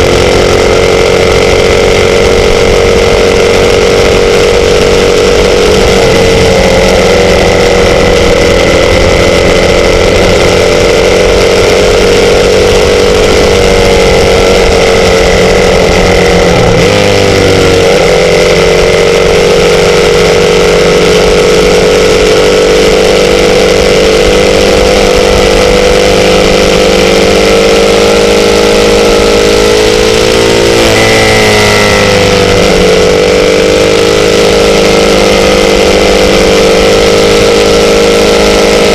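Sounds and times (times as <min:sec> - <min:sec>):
motorbike engine running: 0:00.0 - 0:38.9.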